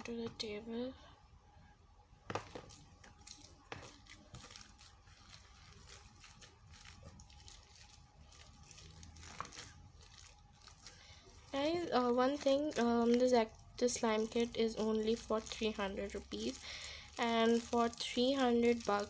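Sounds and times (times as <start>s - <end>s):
slime crinkling and crackling: 2.2s - 19.0s.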